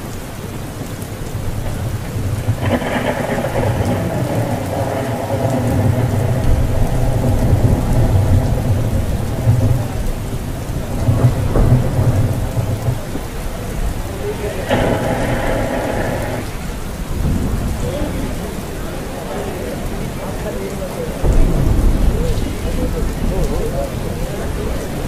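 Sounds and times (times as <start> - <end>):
rolling thunder: 0.0 - 25.0
steady rain: 0.0 - 25.0.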